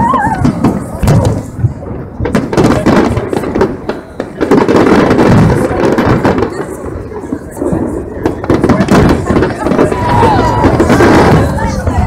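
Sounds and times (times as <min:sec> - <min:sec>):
firework crackles: 0:00.0 - 0:12.0
people's voices: 0:00.0 - 0:12.0.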